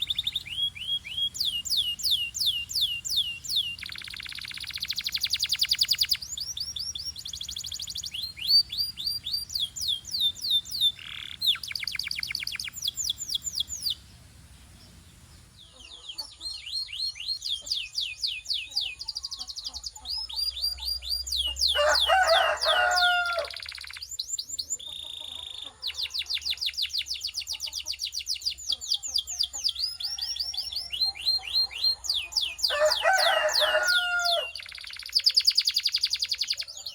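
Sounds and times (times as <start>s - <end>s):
canaries singing trills: 0.0s - 36.9s.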